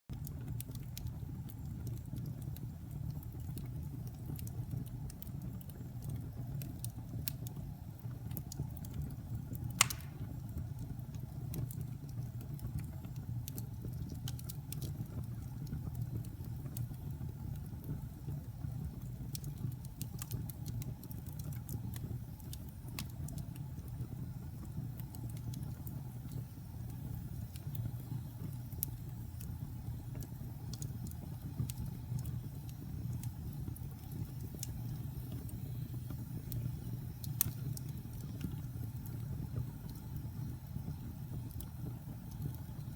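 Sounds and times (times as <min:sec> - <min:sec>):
fire crackling and popping: 0:00.1 - 0:42.9
fire flames rumbling: 0:00.1 - 0:42.9.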